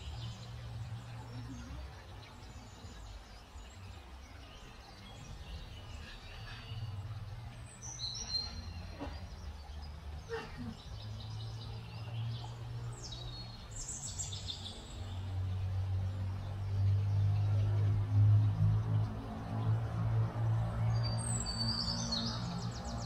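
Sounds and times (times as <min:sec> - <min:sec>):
songbirds chirping and twittering: 0:00.0 - 0:23.0.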